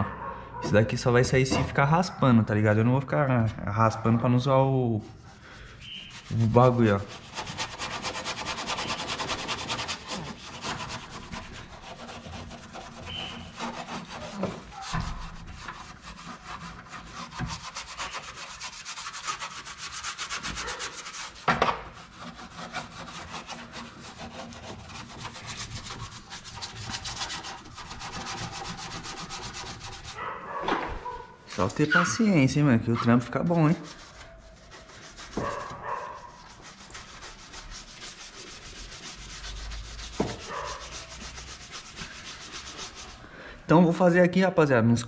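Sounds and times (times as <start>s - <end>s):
paintbrush scrubbing sheet metal: 3.3s - 30.3s, 31.2s - 43.3s.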